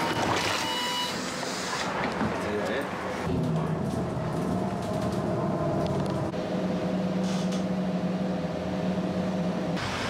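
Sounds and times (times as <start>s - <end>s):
vehicle engine hum: 1.3s - 10.0s.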